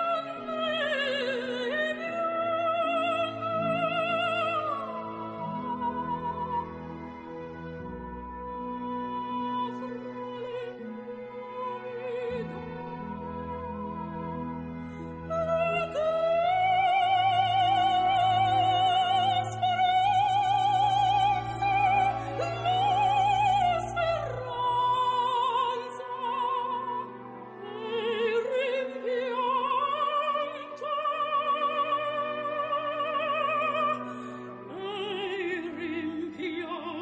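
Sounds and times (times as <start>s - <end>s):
operatic singing: 0.0s - 37.0s.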